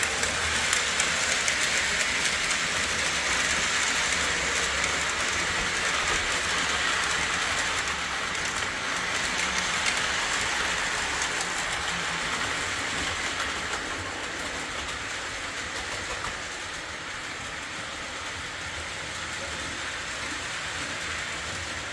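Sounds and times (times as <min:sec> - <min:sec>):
toy train motor whirring: 0:00.0 - 0:21.9
wheels rumbling on rails: 0:00.0 - 0:21.9.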